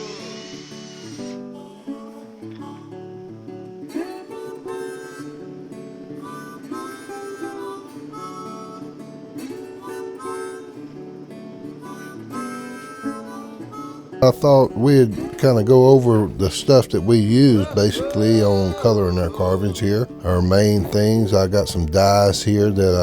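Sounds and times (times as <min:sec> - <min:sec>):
acoustic guitar and harmonica folk music: 0:00.0 - 0:23.0.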